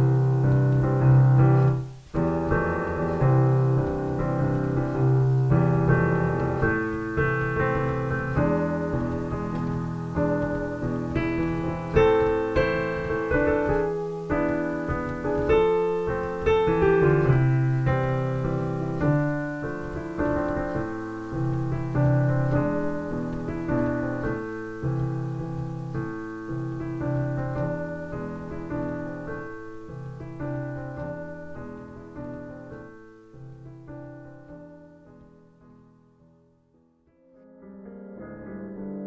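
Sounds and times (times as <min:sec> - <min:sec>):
piano music: 0:00.0 - 0:39.0.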